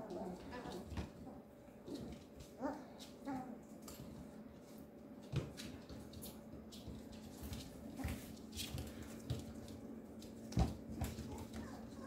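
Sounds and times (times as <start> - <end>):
puppies scuffling on vinyl floor: 0.0 - 12.0.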